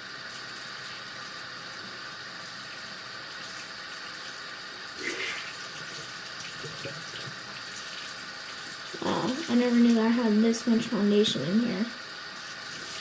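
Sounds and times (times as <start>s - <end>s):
tap water running into sink: 0.0s - 13.0s
sponge rinsed under water: 0.4s - 13.0s.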